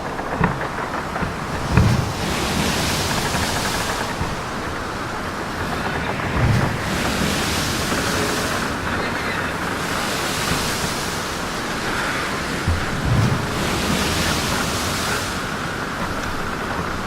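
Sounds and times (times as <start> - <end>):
water rushing past boat: 0.0 - 17.0
wind buffeting microphone: 0.0 - 17.0.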